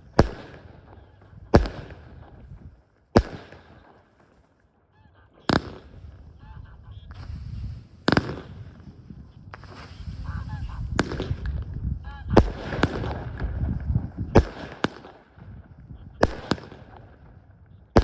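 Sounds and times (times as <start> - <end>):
fireworks bangs: 0.0 - 4.5, 5.4 - 18.0
low rumble and crackle: 0.0 - 18.0.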